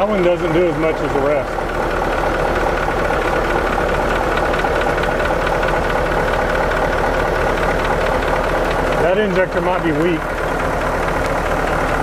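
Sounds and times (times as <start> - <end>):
diesel truck engine idling: 0.0 - 12.0
rapid engine ticking: 0.0 - 12.0.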